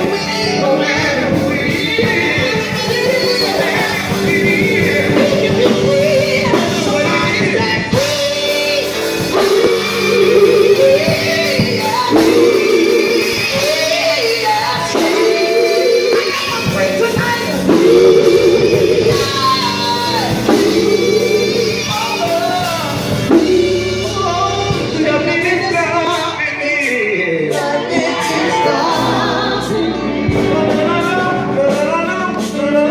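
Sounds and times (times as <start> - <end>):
drums: 0.0 - 32.9
gospel group singing in harmony: 0.0 - 32.9
keyboard: 0.0 - 32.9.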